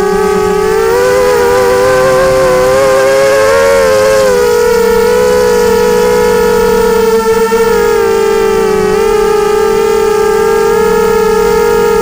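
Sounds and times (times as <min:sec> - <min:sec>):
drone motors and propellers whining: 0:00.0 - 0:12.0.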